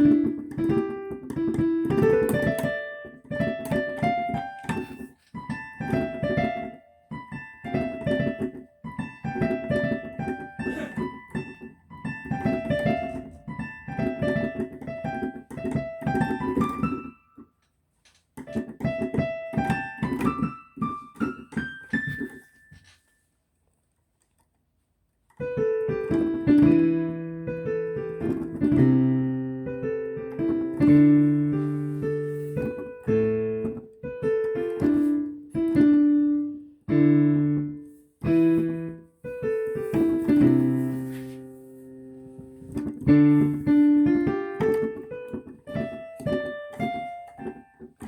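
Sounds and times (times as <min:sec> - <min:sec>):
piano playing: 0:00.0 - 0:17.6, 0:18.4 - 0:23.2, 0:25.3 - 0:48.0.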